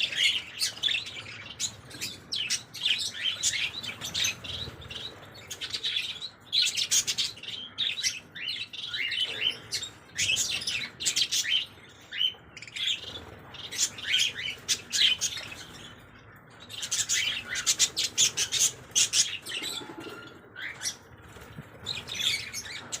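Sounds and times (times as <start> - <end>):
small birds twittering: 0.0 - 23.0.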